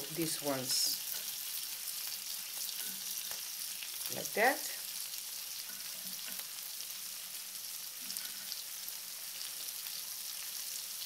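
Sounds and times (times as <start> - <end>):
shrimp sizzling in a pan: 0.0 - 11.0.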